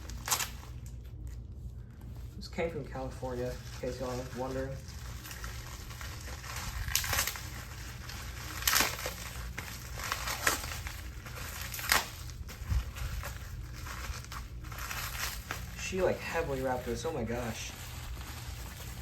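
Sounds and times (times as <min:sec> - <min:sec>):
packaging wrap crinkling: 0:00.0 - 0:19.0.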